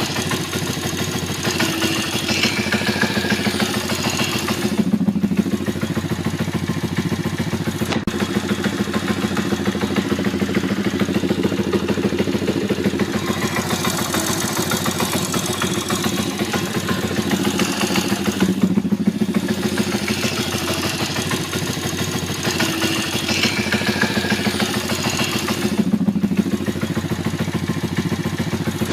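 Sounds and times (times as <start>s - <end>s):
engine knocking: 0.0s - 28.9s
motorcycle engine idling: 0.0s - 28.9s.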